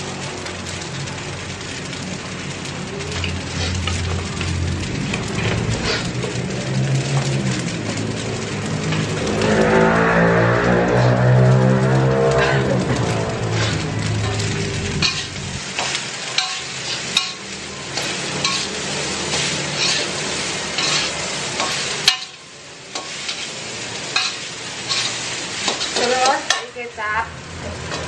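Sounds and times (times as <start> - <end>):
steady sizzle: 0.0 - 28.0
spatula scraping a wok: 0.4 - 26.7.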